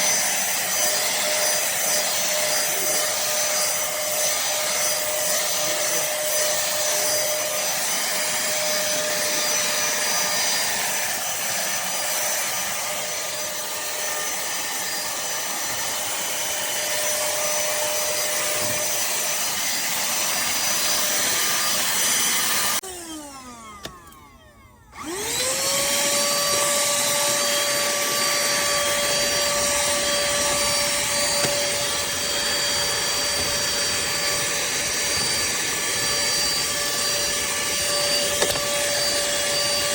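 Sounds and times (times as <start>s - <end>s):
handheld vacuum cleaner running: 0.0s - 39.9s.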